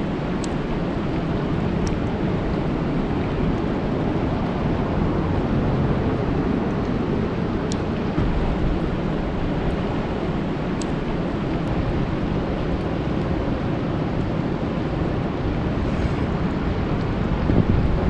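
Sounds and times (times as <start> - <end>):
rain falling on a lake: 0.0 - 15.8.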